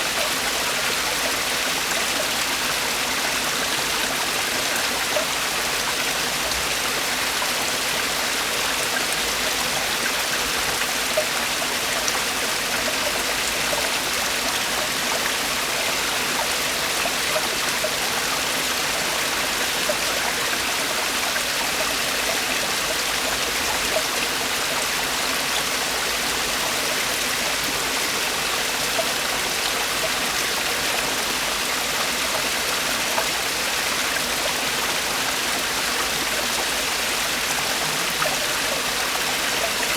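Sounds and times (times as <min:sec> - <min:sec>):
stream water splashing over rocks: 0:00.0 - 0:39.9.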